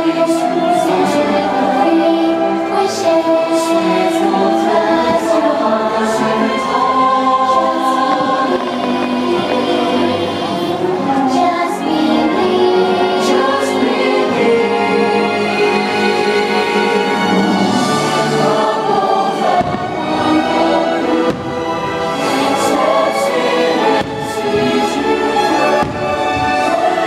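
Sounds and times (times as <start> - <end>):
choir singing sustained lines: 0.0 - 27.0
musical accompaniment: 0.0 - 27.0.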